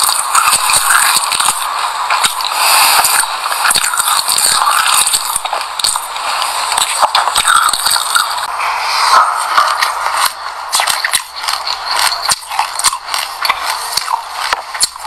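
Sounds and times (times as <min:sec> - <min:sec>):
chewing crunchy seeds: 0:00.0 - 0:08.5, 0:09.6 - 0:15.0.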